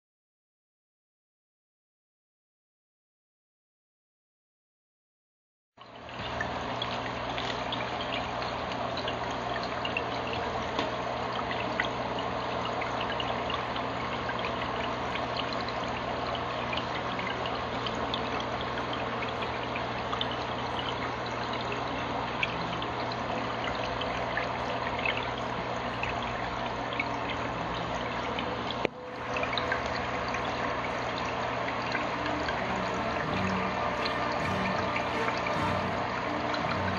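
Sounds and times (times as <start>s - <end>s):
aquarium water trickling and splashing: 5.8s - 36.9s
low steady hum: 6.0s - 36.9s.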